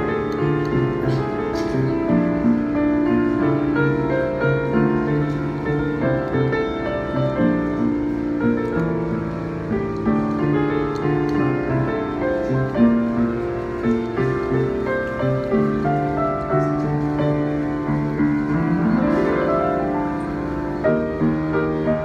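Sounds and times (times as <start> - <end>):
solo piano playing pop song: 0.0 - 22.0.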